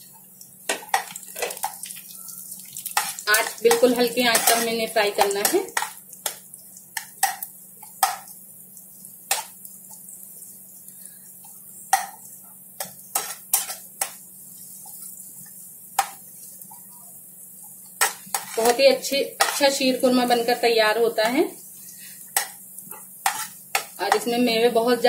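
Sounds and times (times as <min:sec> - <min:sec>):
spoon stirring in frying pan: 0:00.1 - 0:24.8.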